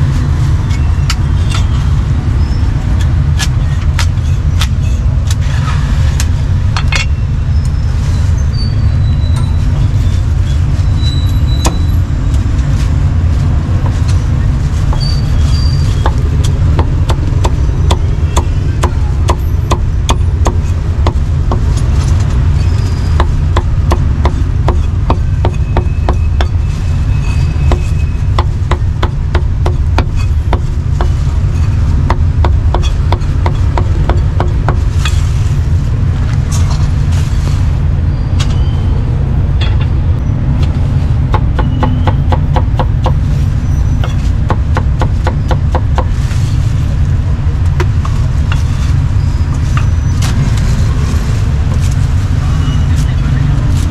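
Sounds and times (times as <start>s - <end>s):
street traffic rumble: 0.0s - 53.9s.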